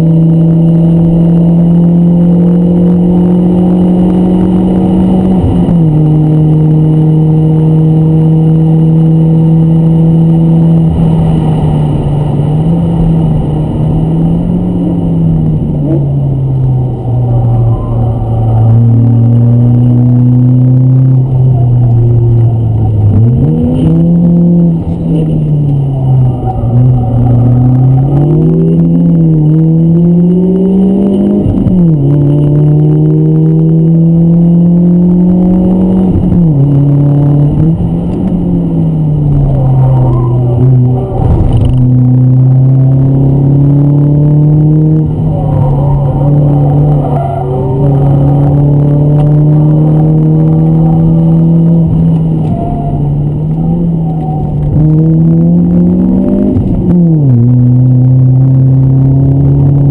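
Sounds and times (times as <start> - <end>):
car engine working hard: 0.0 - 59.9
road and tyre noise: 0.0 - 59.9.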